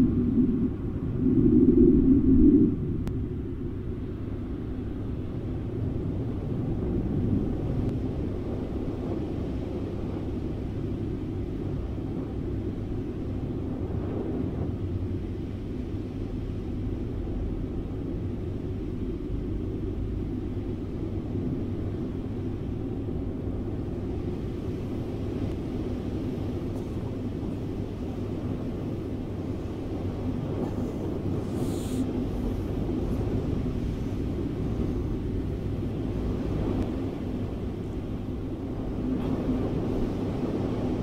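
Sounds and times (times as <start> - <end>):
rushing air rumble: 0.0 - 41.0.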